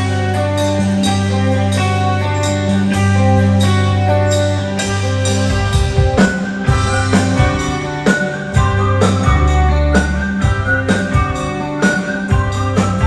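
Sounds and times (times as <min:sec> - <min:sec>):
bass guitar notes: 0:00.0 - 0:13.0.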